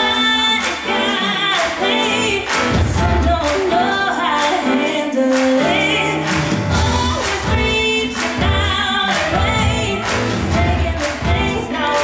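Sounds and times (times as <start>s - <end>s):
backing music: 0.0s - 12.0s
woman singing slow pop song: 0.0s - 12.0s.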